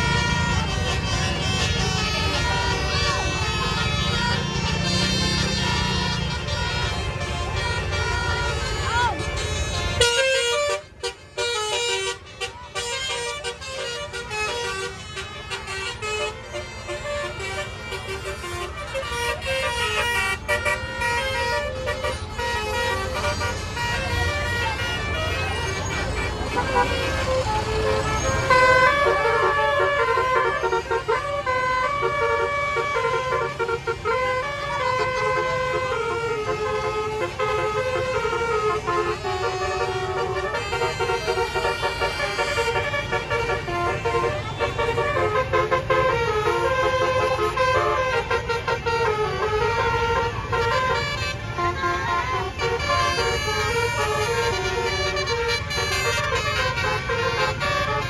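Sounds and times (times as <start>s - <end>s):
multi-tone bus horn melody: 0.0s - 58.0s.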